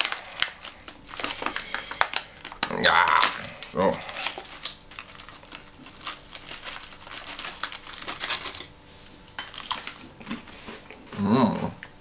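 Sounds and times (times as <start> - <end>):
plastic pouch crinkling: 0.0 - 11.0.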